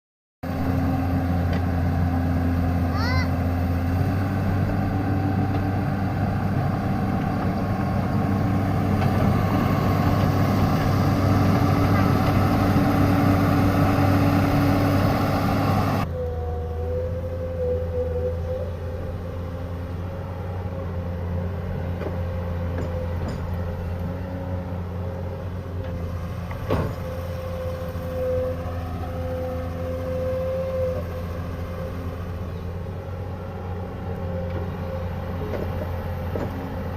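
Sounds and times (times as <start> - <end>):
excavator diesel engine running: 0.4 - 36.9
steady engine whine: 0.4 - 36.9.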